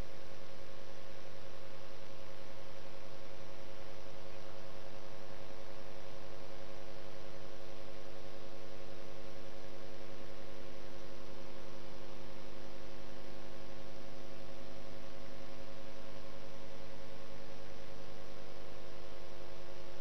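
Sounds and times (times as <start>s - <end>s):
steady hum of fixed tones: 0.0s - 20.0s.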